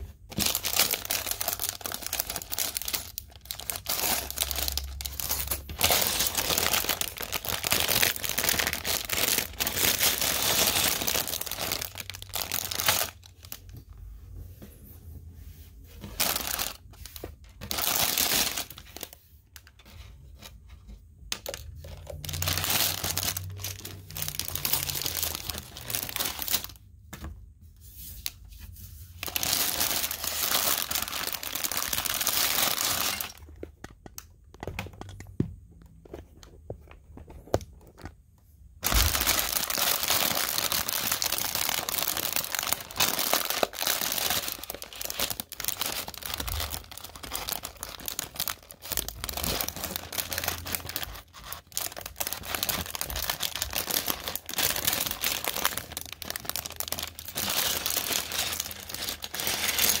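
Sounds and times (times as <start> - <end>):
packaging crinkling and tearing: 0.3 - 13.8, 16.0 - 19.8, 21.3 - 26.9, 29.2 - 33.8, 38.8 - 60.0.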